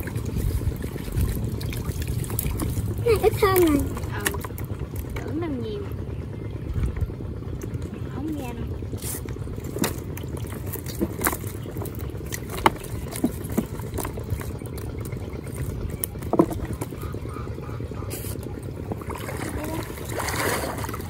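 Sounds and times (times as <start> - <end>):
fish flapping and splashing: 0.0 - 5.3, 8.8 - 21.0
steady low rumble: 0.0 - 21.0.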